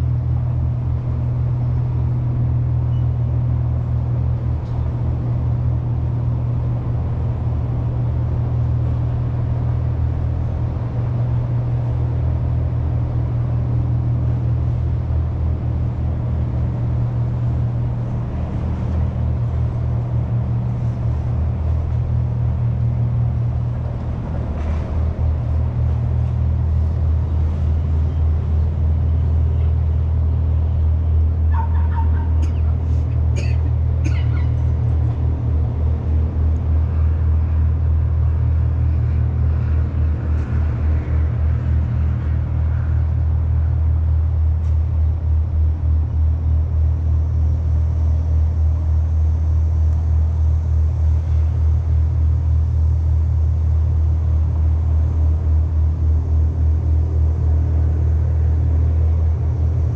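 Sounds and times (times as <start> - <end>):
low rumble: 0.0 - 31.6, 32.2 - 59.9.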